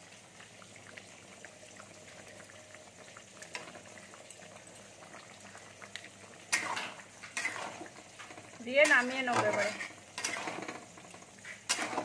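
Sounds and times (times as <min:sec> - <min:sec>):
curry bubbling in pan: 0:00.0 - 0:12.0.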